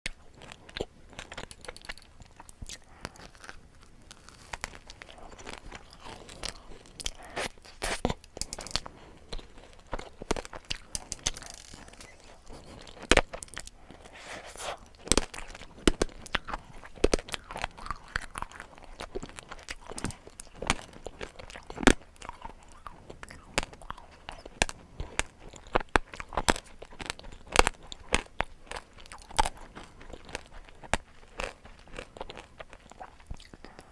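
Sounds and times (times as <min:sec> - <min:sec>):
crunching and chewing sweets: 0:00.1 - 0:33.9.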